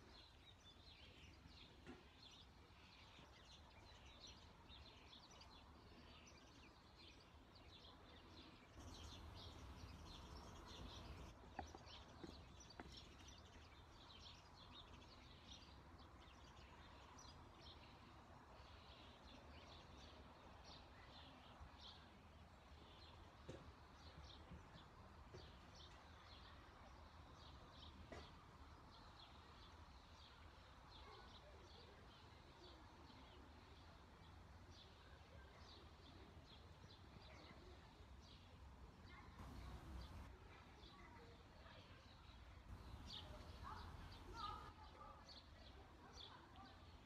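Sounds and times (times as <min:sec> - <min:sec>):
faint songbirds chirping: 0:00.0 - 0:47.0.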